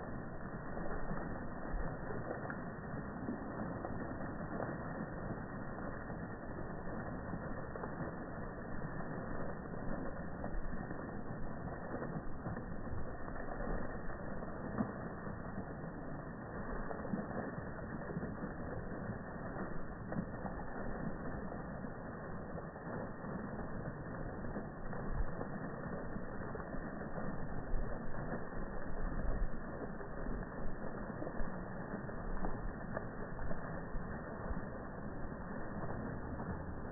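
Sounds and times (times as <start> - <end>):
fountain water splashing: 0.0 - 36.9.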